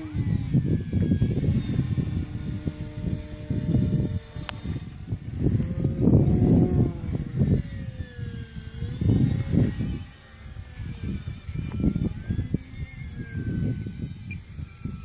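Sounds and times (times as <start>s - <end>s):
model airplane motor whining: 0.0s - 15.0s
wind on microphone: 0.0s - 15.0s.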